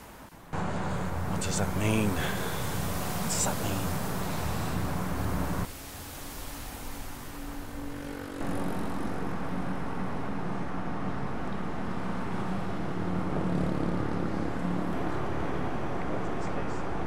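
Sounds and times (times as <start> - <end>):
outdoor background rumble: 0.0 - 5.8, 6.6 - 17.0
low hum: 0.2 - 16.4.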